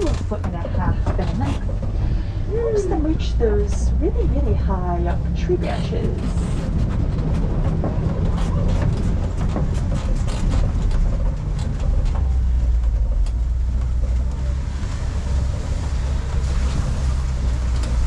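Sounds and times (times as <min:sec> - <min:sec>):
truck engine and road rumble: 0:00.0 - 0:18.0
vehicle body clicks and rattles: 0:00.0 - 0:18.0.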